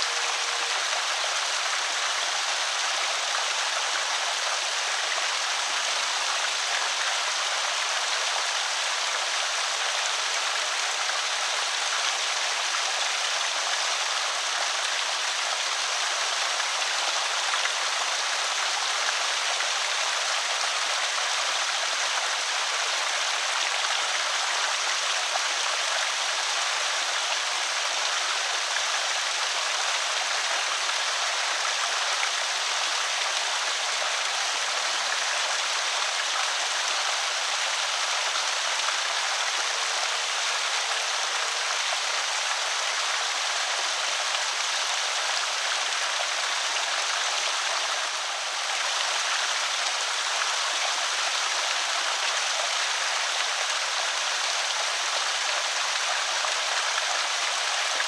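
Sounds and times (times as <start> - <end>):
water rushing over spillway: 0.0 - 58.0.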